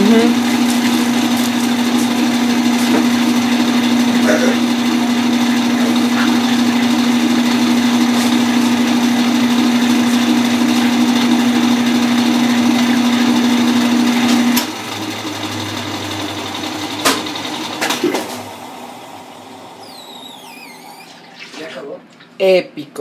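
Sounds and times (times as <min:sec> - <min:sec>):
washing machine motor hum: 0:00.0 - 0:23.0.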